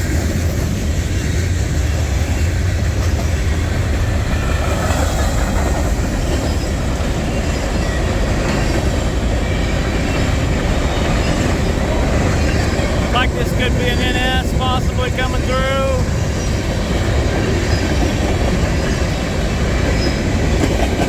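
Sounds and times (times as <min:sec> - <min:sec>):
train cars rumbling on rails: 0:00.0 - 0:21.0.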